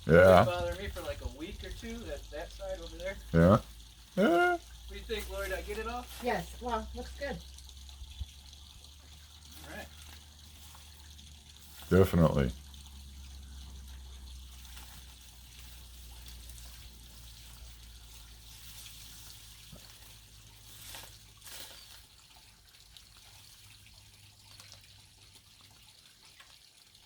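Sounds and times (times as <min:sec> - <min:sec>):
water splashes: 0:00.0 - 0:27.0
water trickling and dripping: 0:00.0 - 0:27.0.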